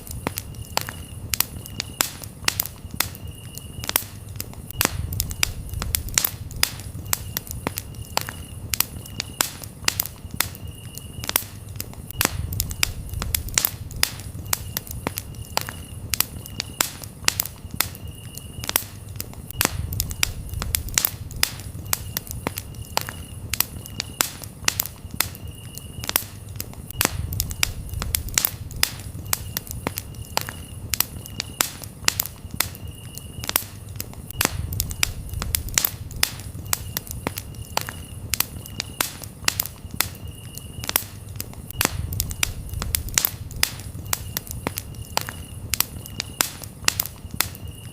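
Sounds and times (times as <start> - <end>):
campfire crackling and popping: 0.0 - 47.9
crickets chirping: 0.0 - 47.9
low rumble of flame: 0.0 - 47.9.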